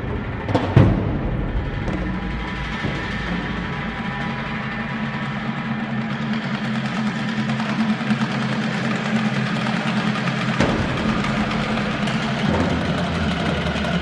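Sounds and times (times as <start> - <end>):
rapid drum roll: 0.0 - 14.0.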